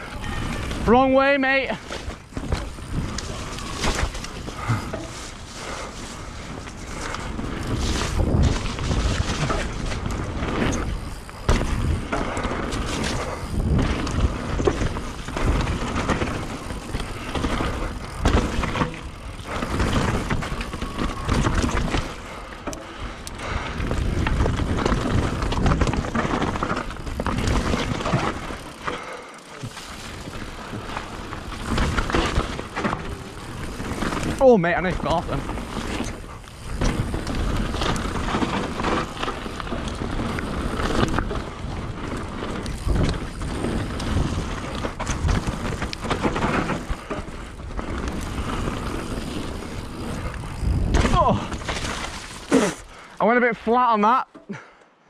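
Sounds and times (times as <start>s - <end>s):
bike tyres rolling over dirt: 0.0s - 54.7s
bike knocks and rattles: 0.1s - 52.9s.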